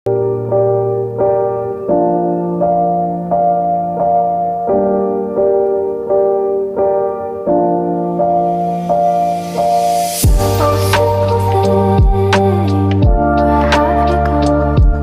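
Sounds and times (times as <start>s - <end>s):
piano chords: 0.1s - 15.0s.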